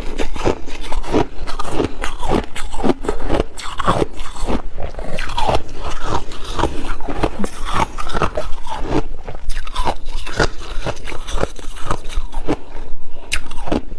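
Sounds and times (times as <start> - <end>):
person chewing ice: 0.0 - 13.9.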